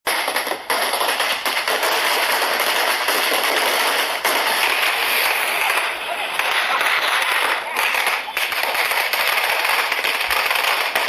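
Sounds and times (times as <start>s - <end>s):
firecrackers cracking rapidly: 0.1s - 11.0s.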